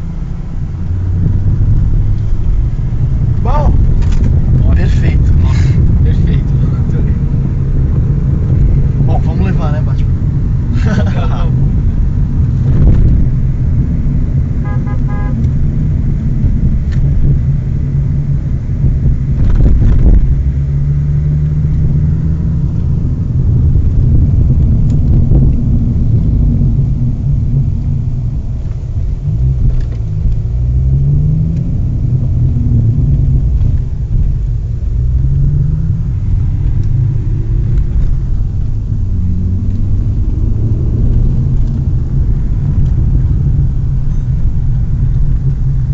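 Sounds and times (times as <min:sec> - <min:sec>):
car engine accelerating: 0:00.0 - 0:45.9
tyre and road noise: 0:00.0 - 0:45.9.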